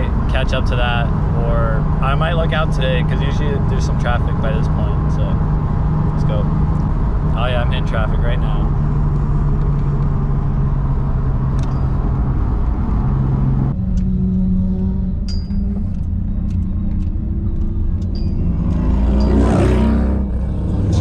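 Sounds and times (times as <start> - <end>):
car engine and exhaust: 0.0 - 21.0.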